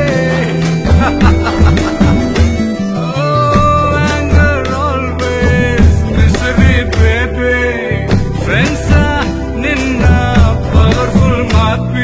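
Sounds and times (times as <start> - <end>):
song with beat and bass: 0.0 - 12.0.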